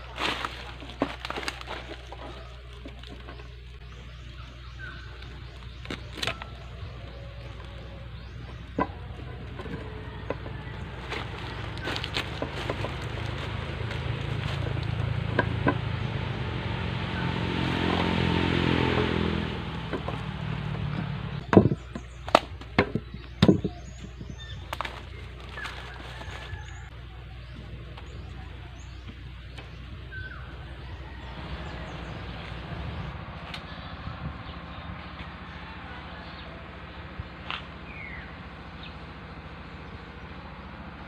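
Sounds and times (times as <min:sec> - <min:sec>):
engine-like hum: 0:00.0 - 0:41.0.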